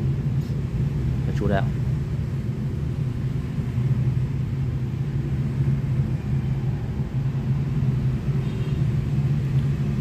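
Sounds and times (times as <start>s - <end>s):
constant hum: 0.0s - 10.0s.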